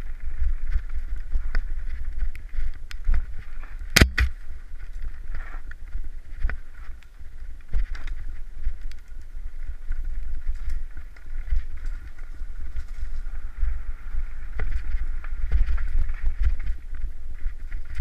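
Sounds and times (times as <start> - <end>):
wind buffeting microphone: 0.0 - 18.0
bike wheels knocking on rocks: 0.3 - 18.0.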